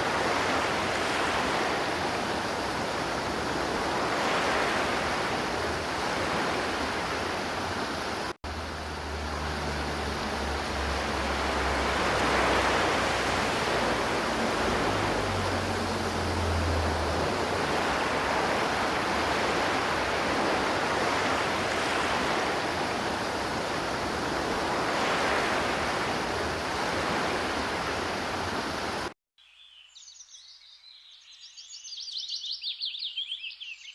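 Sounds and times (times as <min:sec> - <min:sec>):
river water rushing: 0:00.0 - 0:29.2.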